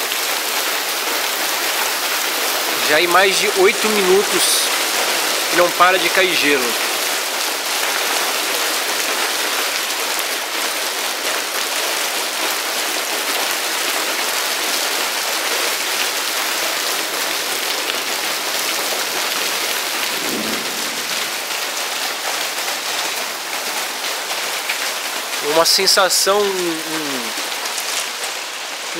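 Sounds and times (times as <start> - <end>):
hailstones falling hard: 0.2 - 28.6.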